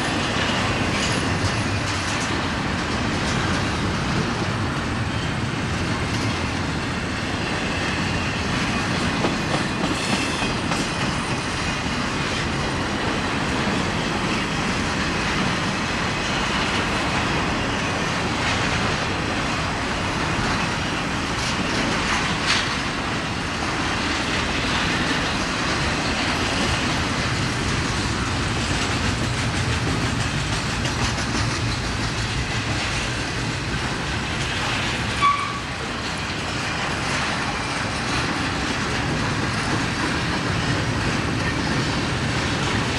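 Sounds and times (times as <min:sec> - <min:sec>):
train wheels clicking and rumbling: 0:00.0 - 0:42.9.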